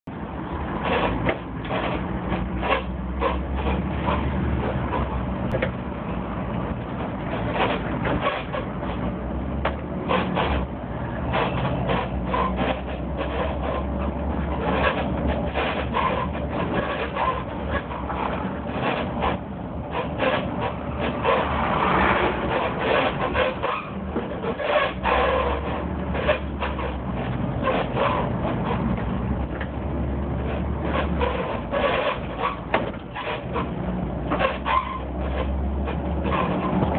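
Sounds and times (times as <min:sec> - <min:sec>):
bus engine drone: 0:00.0 - 0:36.9
clicks rattles and squeaks: 0:00.8 - 0:05.6, 0:06.8 - 0:21.6, 0:22.2 - 0:36.9.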